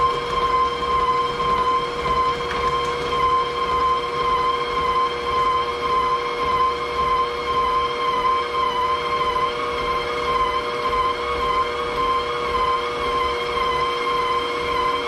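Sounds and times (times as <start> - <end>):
stand mixer motor whining: 0.0 - 15.0.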